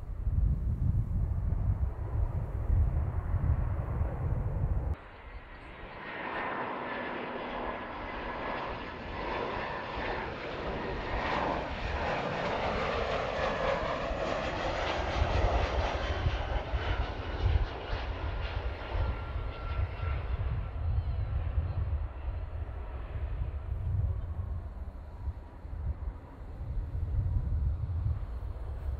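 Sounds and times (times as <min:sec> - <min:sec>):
jet engines with high whine: 0:00.0 - 0:28.9.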